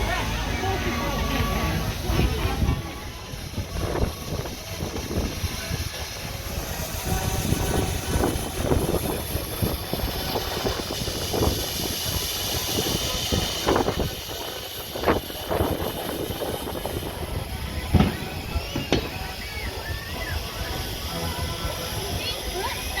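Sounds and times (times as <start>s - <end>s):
mechanical running noise: 0.0s - 23.0s.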